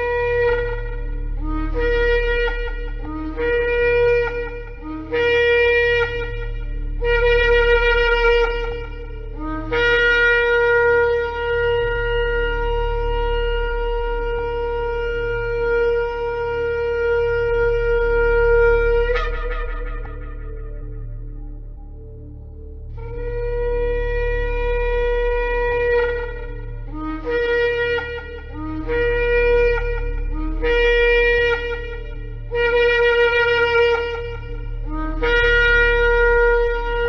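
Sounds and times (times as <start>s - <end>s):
shofar blasts: 0.0s - 22.3s, 23.0s - 37.0s.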